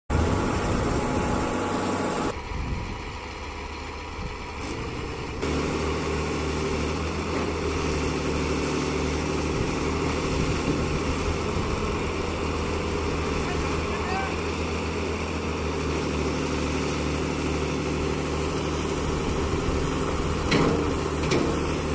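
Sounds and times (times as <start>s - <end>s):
large diesel engine running: 0.1s - 21.9s.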